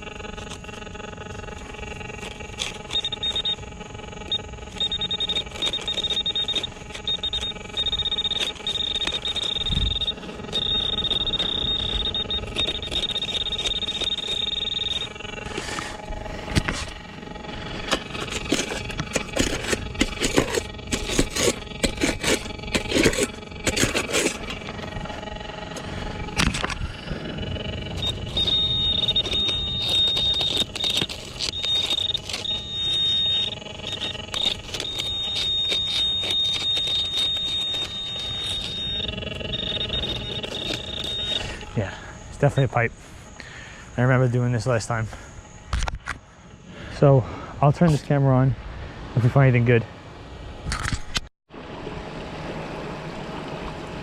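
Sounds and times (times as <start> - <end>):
metal detector high tone: 0.0 - 43.2, 43.9 - 45.2.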